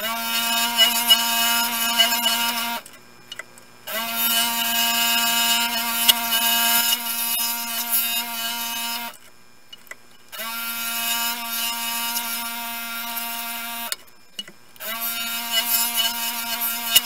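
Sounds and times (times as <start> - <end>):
scroll saw cutting wood: 0.0 - 2.9, 3.9 - 9.3, 10.3 - 14.0, 14.8 - 17.0.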